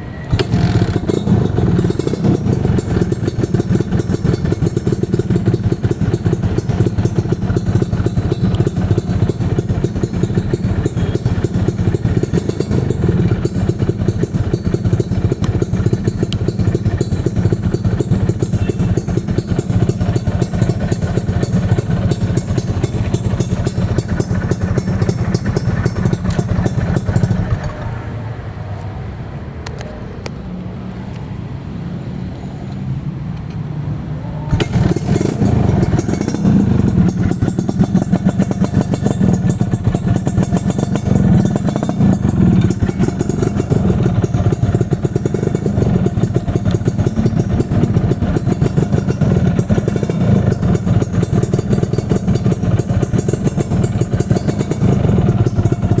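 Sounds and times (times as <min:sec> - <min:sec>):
motorcycle engine revving: 0:00.3 - 0:28.0, 0:34.5 - 0:56.0.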